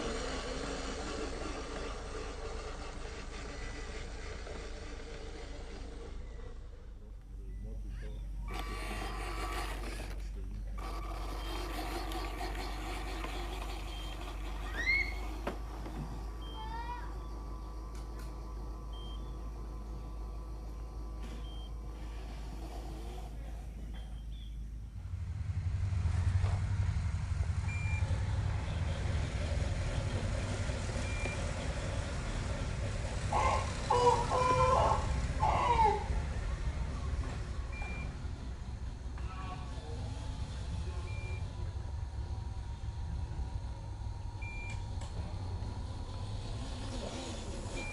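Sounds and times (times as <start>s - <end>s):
electric motor whining: 0.0s - 24.4s, 25.0s - 47.9s
truck engine rumble: 0.0s - 47.9s.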